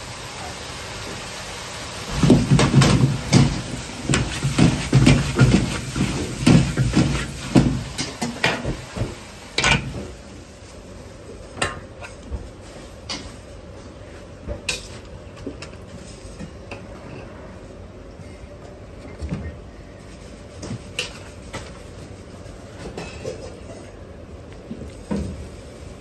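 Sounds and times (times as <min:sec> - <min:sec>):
faint kitchen hum: 0:00.0 - 0:26.0.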